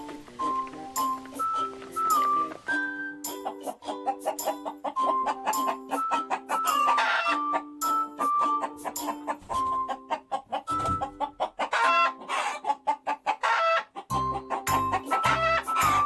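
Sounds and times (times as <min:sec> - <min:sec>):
upbeat background music: 0:00.0 - 0:12.1, 0:14.1 - 0:16.0
chickens clucking: 0:00.0 - 0:16.0.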